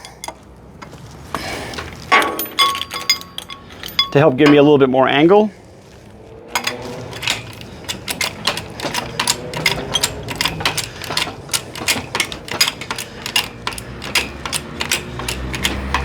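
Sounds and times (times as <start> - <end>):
metallic clicking and clinking: 0.0 - 1.0, 1.7 - 4.9, 6.5 - 16.0.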